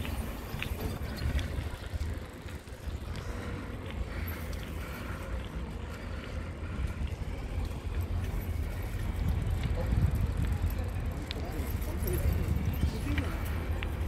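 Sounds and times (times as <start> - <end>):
faint ticks from bicycle: 0.0 - 14.0
wind buffeting microphone: 0.0 - 14.0.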